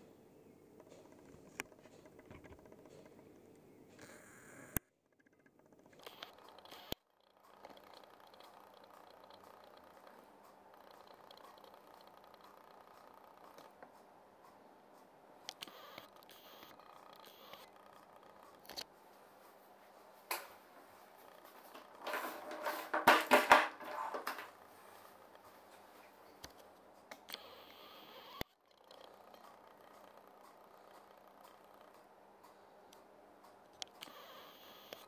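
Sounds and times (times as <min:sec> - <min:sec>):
faint room hum: 0:00.0 - 0:35.0.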